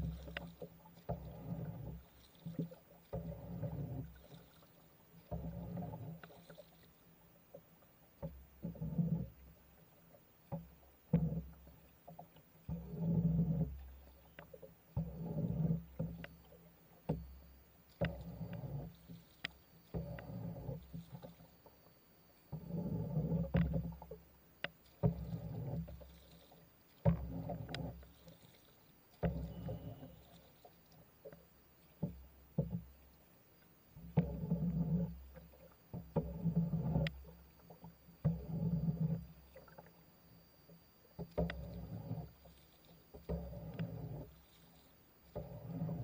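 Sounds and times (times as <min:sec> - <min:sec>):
paddle pulling through water: 0:00.0 - 0:46.0.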